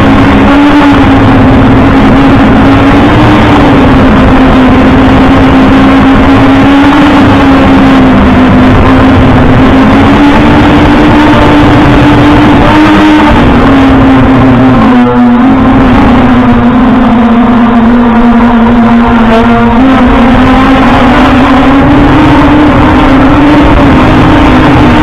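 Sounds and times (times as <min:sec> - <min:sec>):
drone propellers buzzing: 0:00.0 - 0:25.0.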